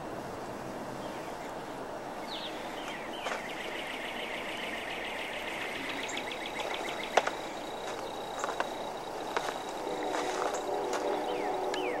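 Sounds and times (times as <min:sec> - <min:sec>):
steady background hiss: 0:00.0 - 0:12.0
bird singing: 0:00.9 - 0:12.0.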